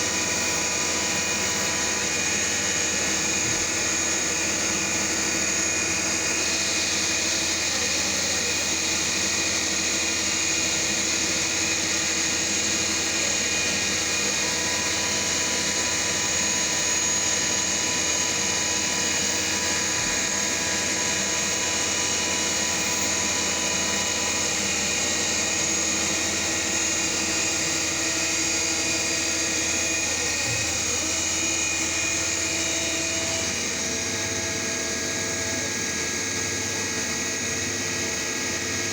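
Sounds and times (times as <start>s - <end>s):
milling machine spindle whine: 0.0s - 38.9s.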